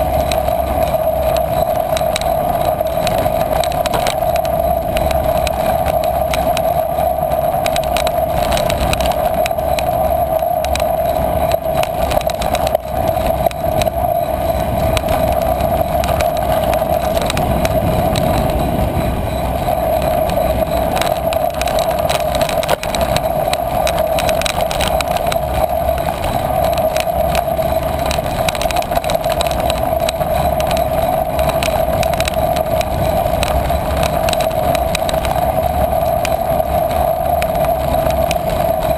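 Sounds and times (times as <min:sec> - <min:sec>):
bicycle rolling over dirt track: 0:00.0 - 0:38.9
mid-pitched hum: 0:00.0 - 0:38.9.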